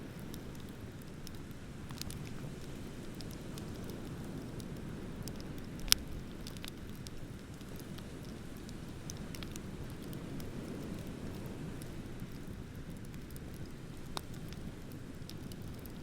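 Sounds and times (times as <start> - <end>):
wood bonfire crackling: 0.0 - 16.0.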